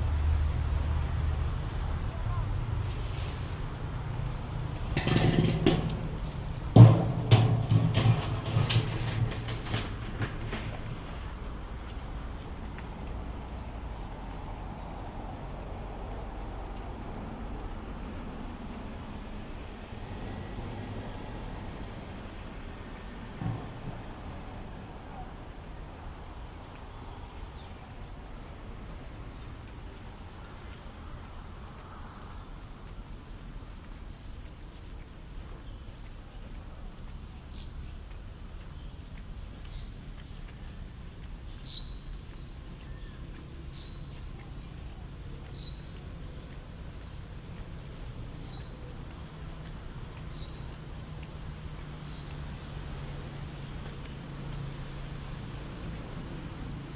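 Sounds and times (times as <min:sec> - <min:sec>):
crickets trilling: 0:00.0 - 0:56.9.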